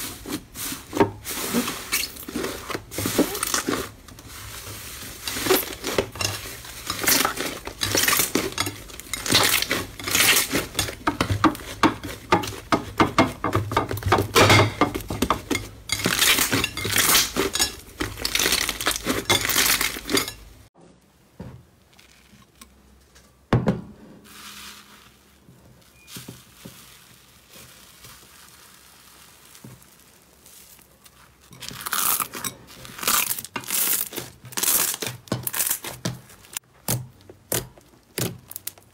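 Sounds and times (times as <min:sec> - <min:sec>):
slime crackling and squelching: 0:00.0 - 0:14.3, 0:15.0 - 0:20.4, 0:24.3 - 0:38.9.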